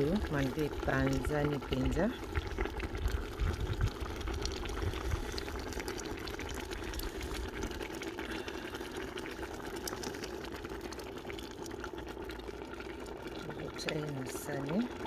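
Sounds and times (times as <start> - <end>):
pot simmering and bubbling: 0.0 - 15.0.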